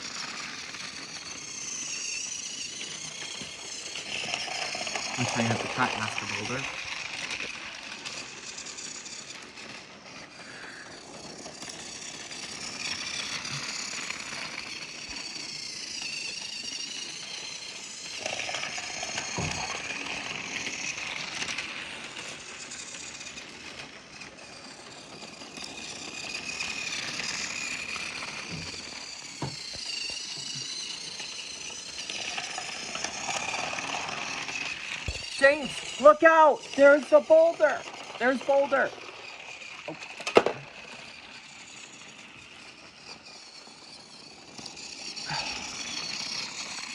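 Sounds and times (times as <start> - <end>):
toy train motor whirring: 0.0 - 46.9.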